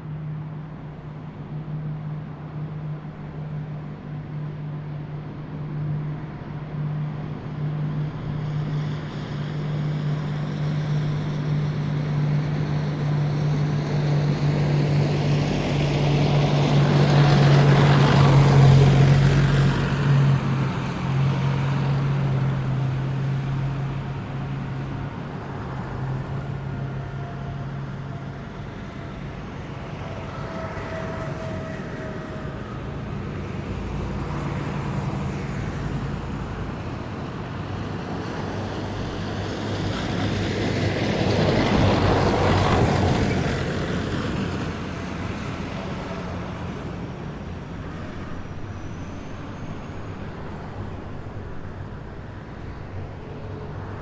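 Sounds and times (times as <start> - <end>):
heavy military vehicle driving past: 7.9 - 54.0.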